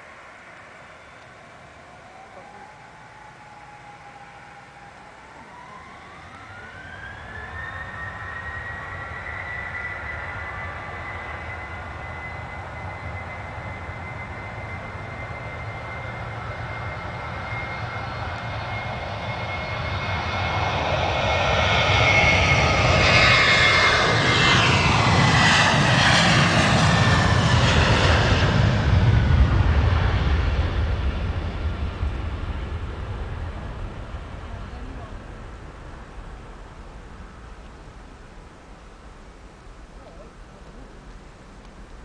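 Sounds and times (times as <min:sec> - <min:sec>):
jet engines at takeoff thrust: 0:00.0 - 0:42.0.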